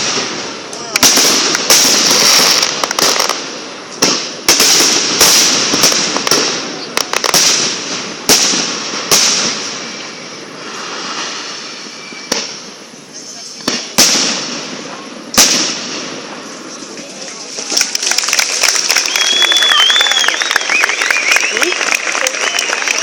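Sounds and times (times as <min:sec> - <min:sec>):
fireworks bangs: 0:00.0 - 0:23.0
fireworks crackling and fizzing: 0:00.0 - 0:23.0.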